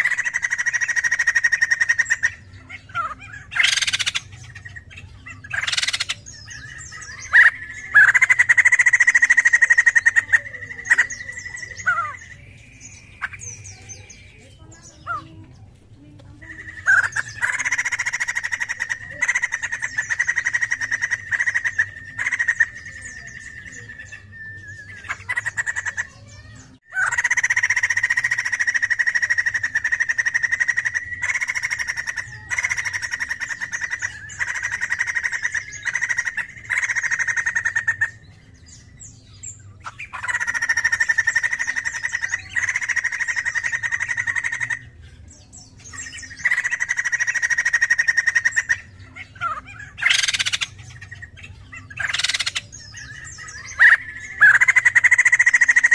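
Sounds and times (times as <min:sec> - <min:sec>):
bird calling in pulsing bouts: 0:00.0 - 0:55.9.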